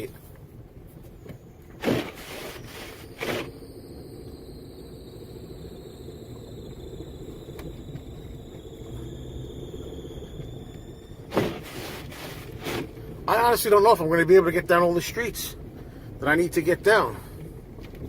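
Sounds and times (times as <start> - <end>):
faint high whine: 0.0 - 17.9
car engine and tyres rumbling: 0.0 - 18.0.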